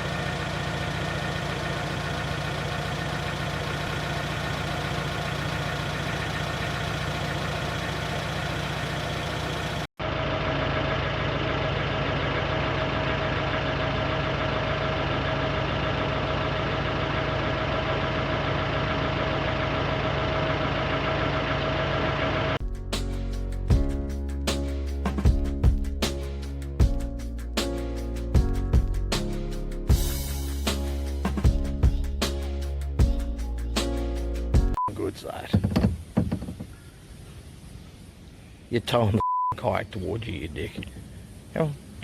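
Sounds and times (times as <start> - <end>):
steady engine with tone: 0.0 - 34.8
engine idling: 0.0 - 37.3.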